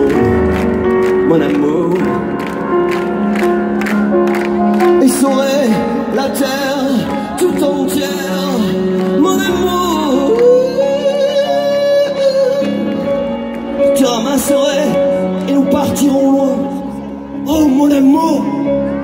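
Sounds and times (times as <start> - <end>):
man singing: 0.0 - 2.4, 4.8 - 18.9
piano accompaniment: 0.0 - 19.0.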